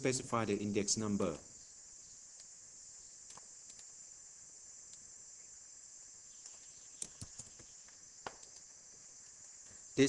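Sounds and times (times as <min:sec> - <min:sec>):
high hiss: 0:00.0 - 0:10.0.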